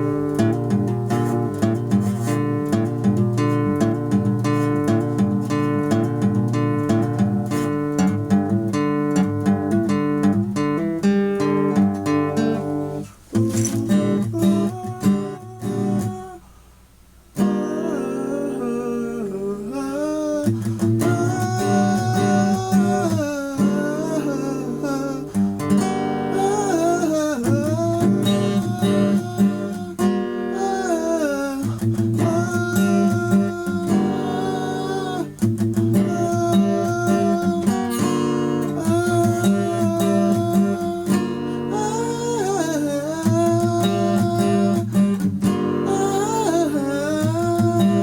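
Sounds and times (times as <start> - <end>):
strummed guitar music: 0.0 - 16.4, 17.3 - 48.0.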